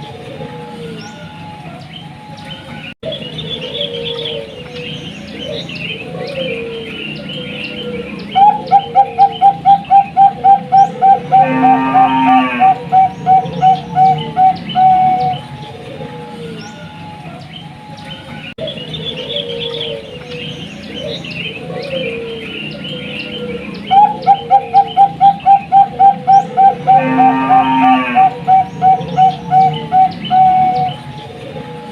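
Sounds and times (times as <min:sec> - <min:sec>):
dove cooing: 0:00.0 - 0:31.9.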